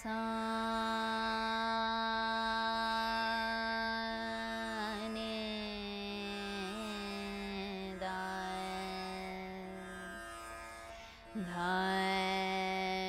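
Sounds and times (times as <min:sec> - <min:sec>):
woman singing long-held notes: 0:00.0 - 0:10.1, 0:11.4 - 0:13.0
plucked tanpura drone: 0:00.0 - 0:13.0.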